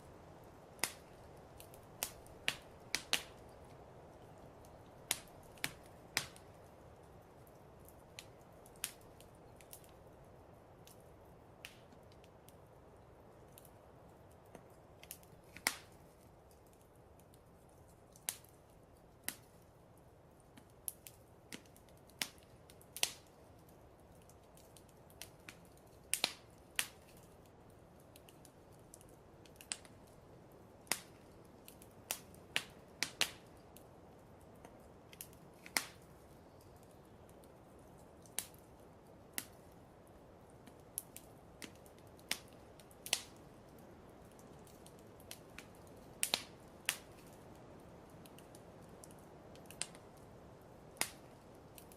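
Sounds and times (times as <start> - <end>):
faint steady hiss: 0.0 - 51.9
wood fire crackling and popping: 0.0 - 51.9.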